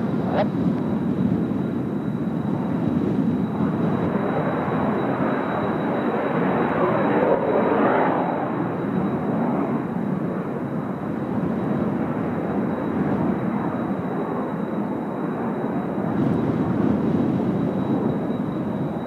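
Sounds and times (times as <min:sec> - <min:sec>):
jet planes flying over: 0:00.0 - 0:19.0.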